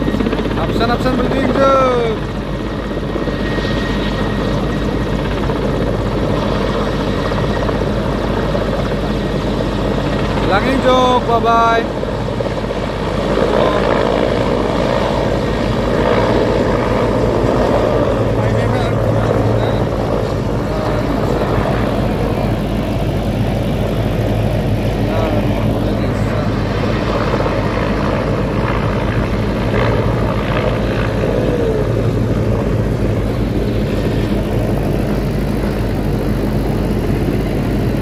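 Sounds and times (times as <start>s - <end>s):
helicopter engine roar: 0.0s - 38.0s
helicopter rotors chopping: 0.0s - 38.0s.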